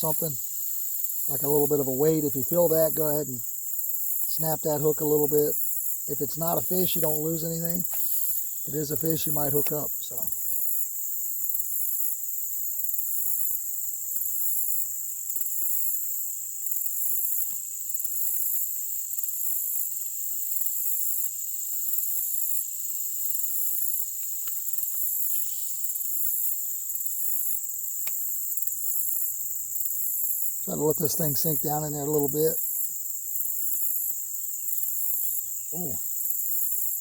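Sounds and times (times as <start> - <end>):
insects trilling: 0.0 - 37.0
pulsing insect trill: 0.0 - 37.0.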